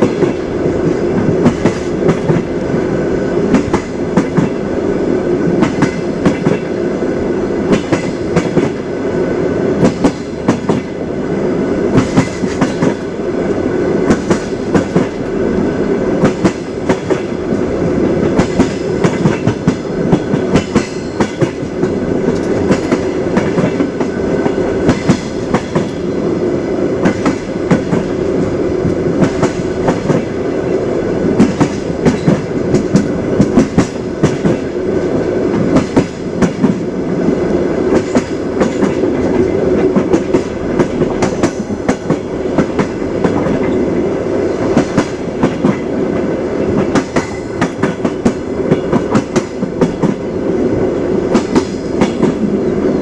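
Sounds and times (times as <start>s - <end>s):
train wheels clicking over rail joints: 0.0s - 9.1s, 9.7s - 53.0s
railway carriage rumble: 0.0s - 53.0s.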